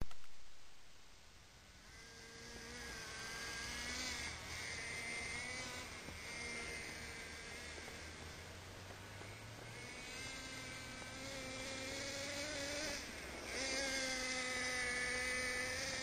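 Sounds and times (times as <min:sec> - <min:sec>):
small two-stroke engine buzzing: 0:01.4 - 0:16.0.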